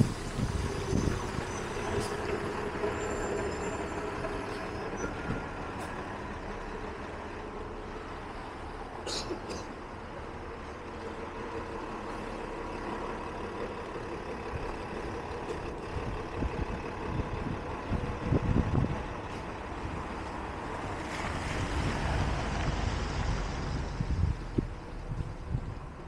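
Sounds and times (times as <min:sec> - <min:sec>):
heavy vehicle running nearby: 0:00.0 - 0:26.0
street traffic rumble: 0:00.0 - 0:26.0.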